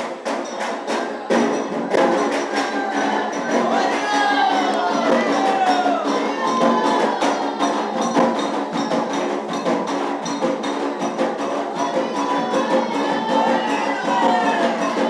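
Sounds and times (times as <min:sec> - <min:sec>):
fast drum and bell percussion: 0:00.0 - 0:15.0
voices singing: 0:00.0 - 0:15.0.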